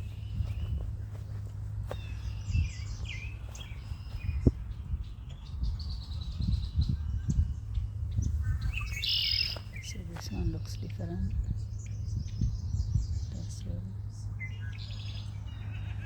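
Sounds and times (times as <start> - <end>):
low outdoor rumble: 0.0 - 16.0
songbirds chirping and trilling: 0.0 - 16.0.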